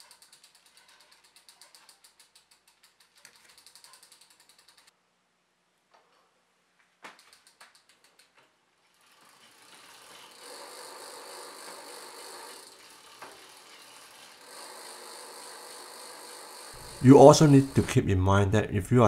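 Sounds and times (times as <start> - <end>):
bicycle drivetrain whirring: 0.0 - 4.9, 7.1 - 18.3
bicycle freehub ticking: 0.0 - 4.9, 7.1 - 17.9.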